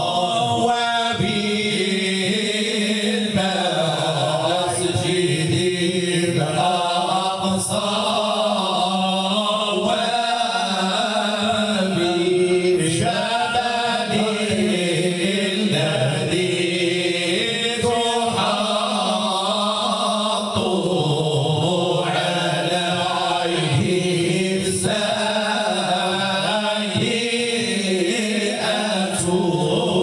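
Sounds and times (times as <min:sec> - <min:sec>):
men singing a chant unaccompanied: 0:00.0 - 0:30.0.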